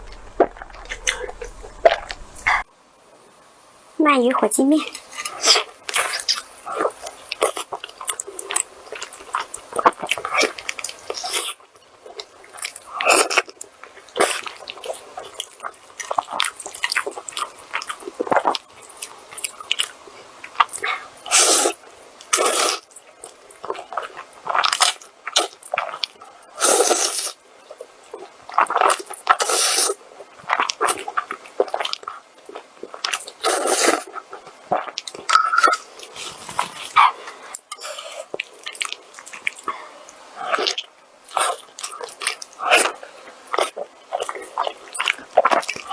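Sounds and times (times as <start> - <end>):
bites and wet chewing: 0.0 - 2.7, 4.8 - 45.9.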